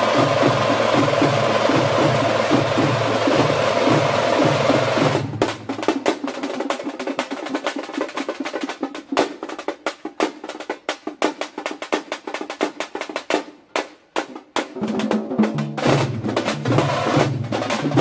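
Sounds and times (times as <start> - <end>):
frame drums beaten with sticks: 0.0 - 18.0.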